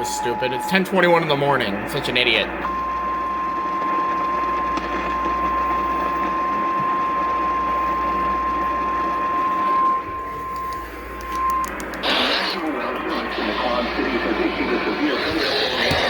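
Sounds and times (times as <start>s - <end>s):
radio static hiss: 0.0s - 16.0s
weather radio alert tone: 0.0s - 16.0s.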